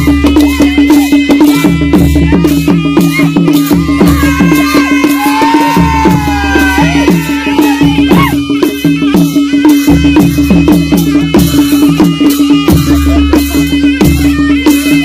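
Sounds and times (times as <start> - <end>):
drums beating fast rhythm: 0.0 - 15.0
high wind instrument melody: 0.0 - 15.0.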